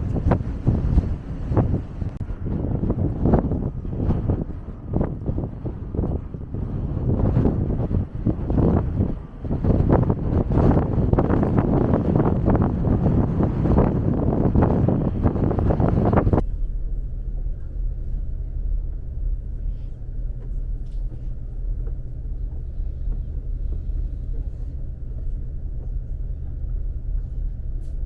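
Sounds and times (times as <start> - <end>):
low engine drone: 0.0 - 28.0
wind buffeting microphone: 0.0 - 28.0.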